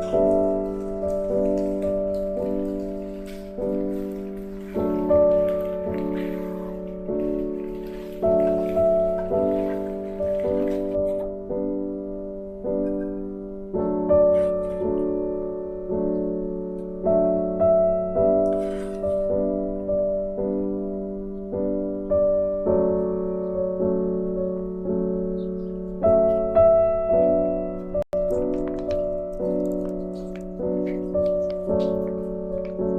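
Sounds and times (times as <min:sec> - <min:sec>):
slow gentle piano music: 0:00.0 - 0:32.9.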